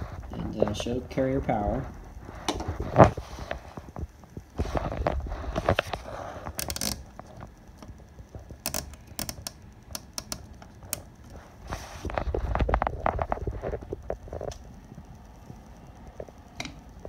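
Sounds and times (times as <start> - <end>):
rustling: 1.7 - 16.4.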